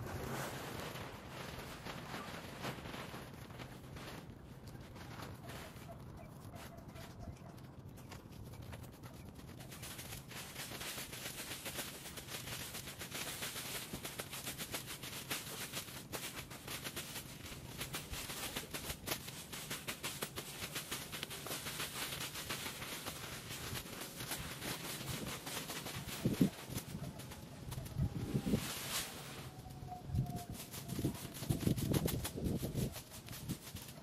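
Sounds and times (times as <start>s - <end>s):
brush and dry leaves rustling: 0.0s - 34.0s.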